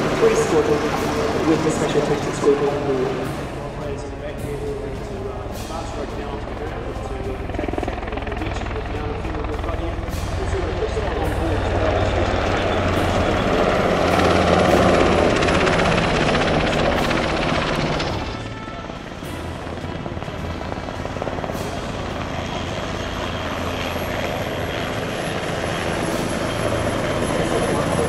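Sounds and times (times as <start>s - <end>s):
helicopter flying low: 0.0s - 28.0s.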